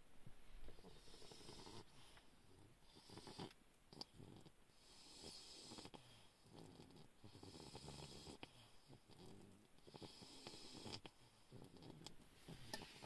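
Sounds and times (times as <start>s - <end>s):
puppy snoring: 0.7s - 13.0s.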